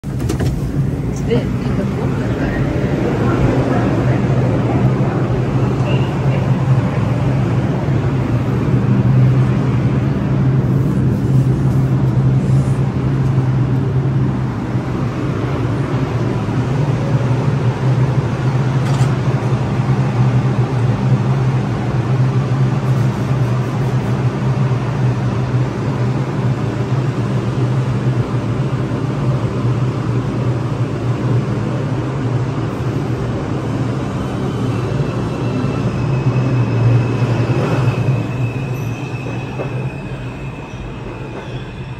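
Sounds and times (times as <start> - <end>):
subway train low hum: 0.0 - 41.9
train high whine: 0.0 - 41.9.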